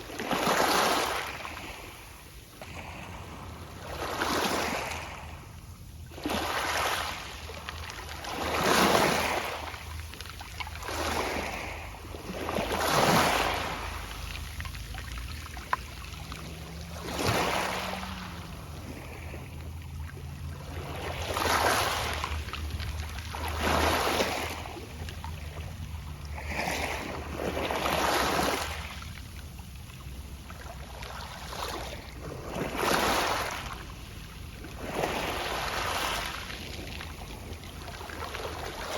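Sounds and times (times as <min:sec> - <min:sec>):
waves breaking on pebble beach: 0:00.0 - 0:05.4, 0:06.1 - 0:19.8, 0:20.4 - 0:29.1, 0:30.7 - 0:38.9.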